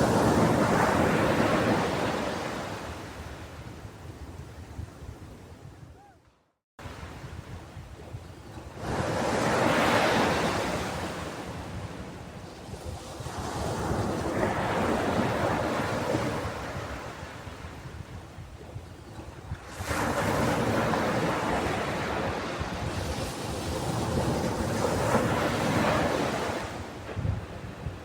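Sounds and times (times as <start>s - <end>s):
ocean waves breaking on shore: 0.0s - 5.7s, 6.8s - 28.0s.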